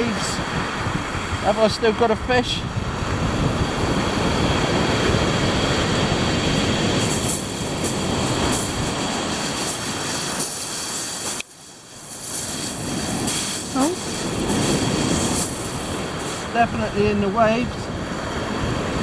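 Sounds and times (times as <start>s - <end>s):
wind buffeting microphone: 0.0s - 19.0s
surf breaking on shingle beach: 2.8s - 19.0s.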